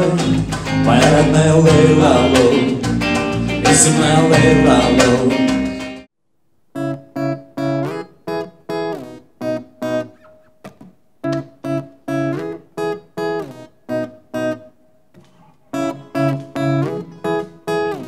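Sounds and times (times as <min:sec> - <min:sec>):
plucked string instrument strumming: 0:00.0 - 0:06.1, 0:06.8 - 0:18.0.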